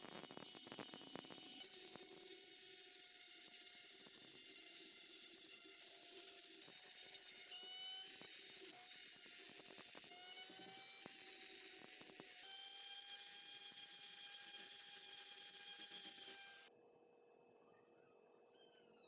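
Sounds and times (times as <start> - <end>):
small electric tool motor: 0.0 - 16.7.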